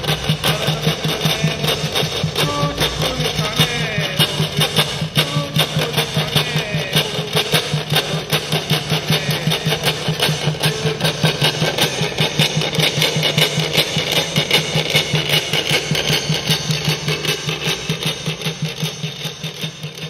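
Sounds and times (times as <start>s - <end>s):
stick rasp scraping: 0.0s - 19.3s.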